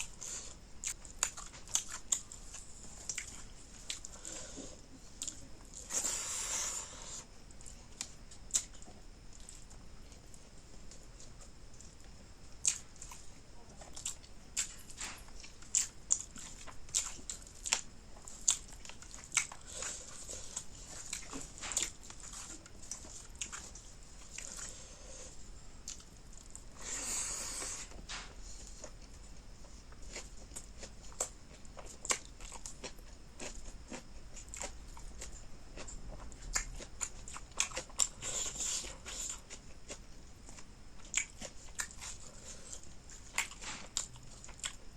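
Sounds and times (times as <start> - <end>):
chewing with wet mouth clicks: 0.8 - 4.3, 5.2 - 6.2, 7.5 - 24.8, 25.8 - 26.7, 30.0 - 44.8.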